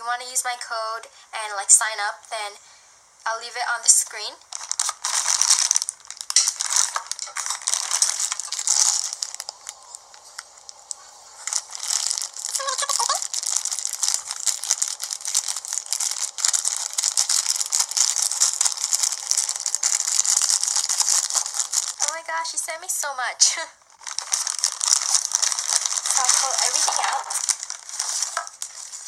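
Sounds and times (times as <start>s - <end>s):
plastic packaging crinkling: 4.1s - 22.4s, 23.9s - 29.0s.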